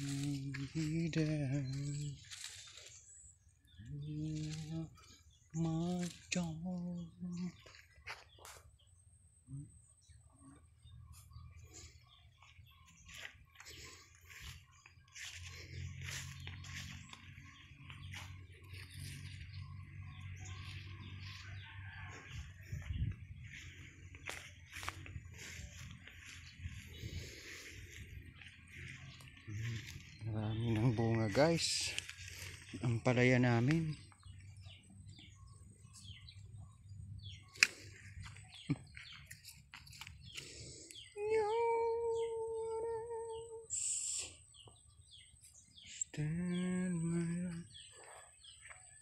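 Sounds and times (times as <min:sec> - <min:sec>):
low steady hum: 0:00.0 - 0:48.9
birds chirping: 0:00.0 - 0:49.0.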